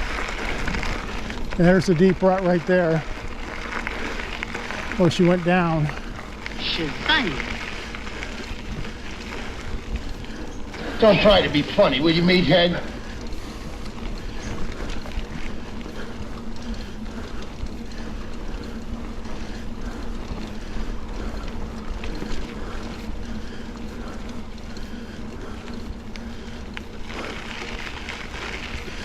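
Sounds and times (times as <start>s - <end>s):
tyres rolling on dirt: 0.0s - 29.0s.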